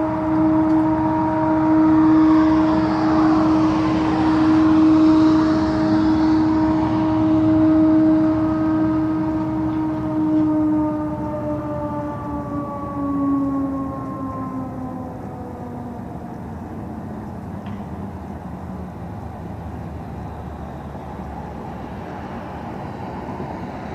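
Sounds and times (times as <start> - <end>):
horn-like drone in the sky: 0.0 - 23.9
rushing noise: 0.0 - 23.9.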